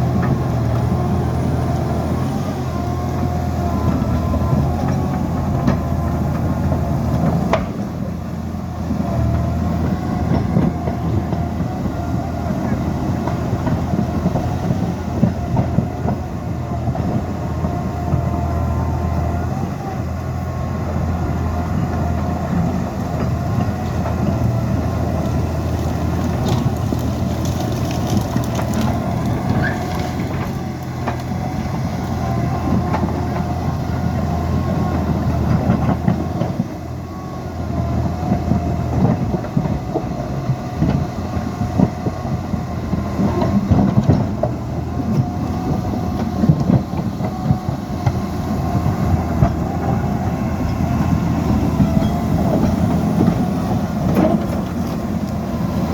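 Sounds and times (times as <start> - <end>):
diesel engine rumble: 0.0 - 55.9.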